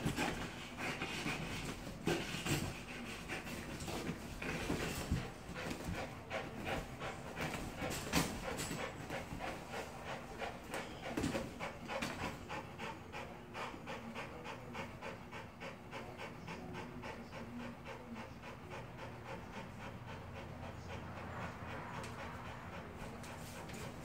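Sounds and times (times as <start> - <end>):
dog panting rapidly: 0.0 - 24.0.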